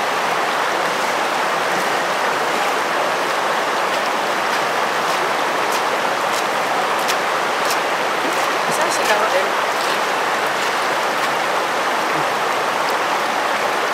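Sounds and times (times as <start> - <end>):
flowing water rushing: 0.0 - 13.9.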